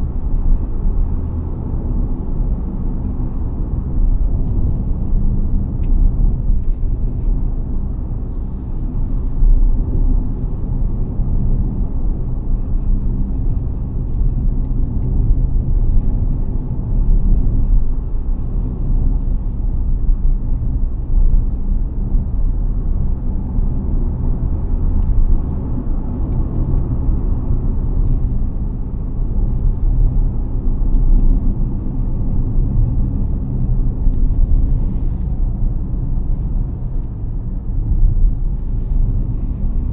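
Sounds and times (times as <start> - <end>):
car tyres and drivetrain rumble: 0.0 - 39.9.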